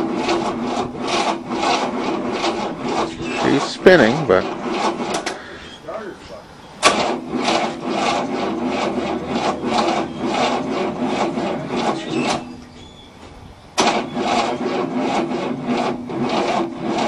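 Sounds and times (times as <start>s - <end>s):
starter motor cranking engine: 0.0s - 17.0s.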